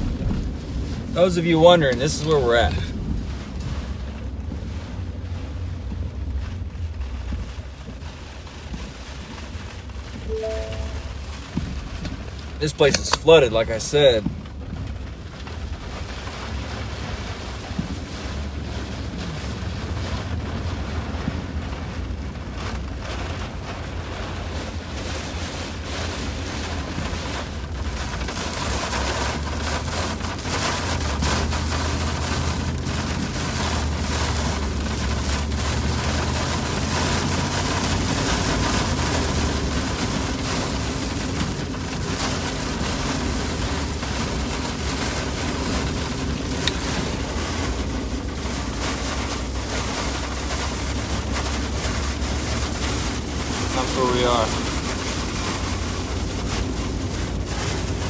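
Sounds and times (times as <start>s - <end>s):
wind gusts buffeting car: 0.0s - 10.2s, 11.2s - 58.0s
engine and tyres on wet road: 0.0s - 58.0s
rain buffeting car: 0.0s - 58.0s.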